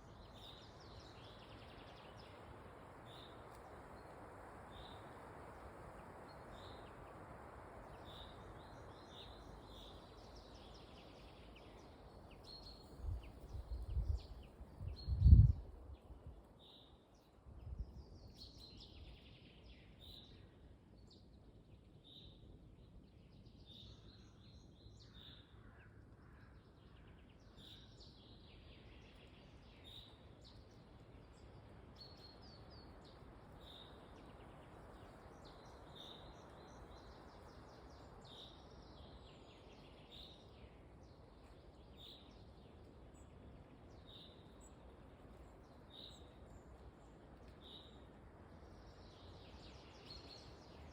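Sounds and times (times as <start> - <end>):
wind in trees: 0.0 - 50.9.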